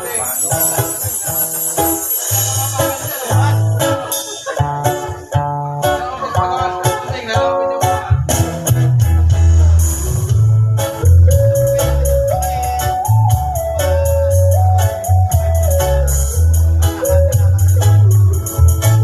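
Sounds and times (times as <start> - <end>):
bass line: 0.0 - 6.8, 7.4 - 19.0
plucked guitar: 0.0 - 19.0
steady beat: 0.0 - 19.0.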